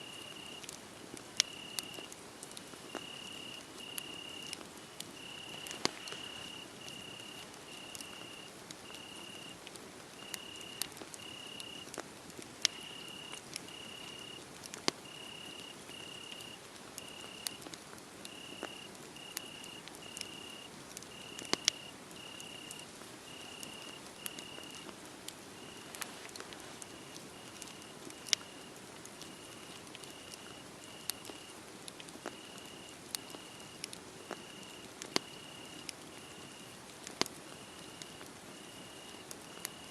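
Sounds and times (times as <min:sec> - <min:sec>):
cricket chirping: 0:00.0 - 0:00.7, 0:01.4 - 0:02.1, 0:02.9 - 0:04.6, 0:05.2 - 0:09.6, 0:10.2 - 0:11.8, 0:12.6 - 0:14.4, 0:15.0 - 0:17.6, 0:18.3 - 0:24.9, 0:25.6 - 0:31.5, 0:32.2 - 0:36.7, 0:37.6 - 0:39.9
soft steady hiss: 0:00.0 - 0:39.9
wood fire crackling and popping: 0:00.1 - 0:39.9.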